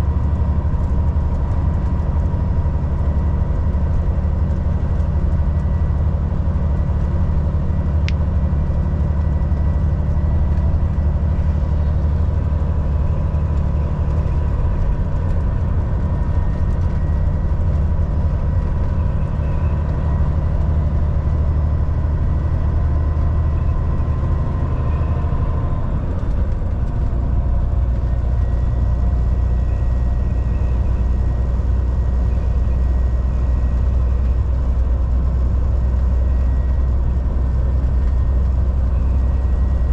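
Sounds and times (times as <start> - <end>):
truck diesel engine running: 0.0 - 39.9
tyre and road noise: 0.0 - 39.9.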